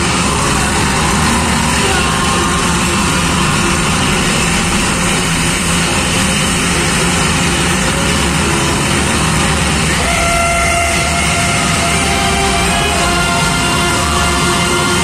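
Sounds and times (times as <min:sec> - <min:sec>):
heavy vehicle engine rumble: 0:00.0 - 0:15.0.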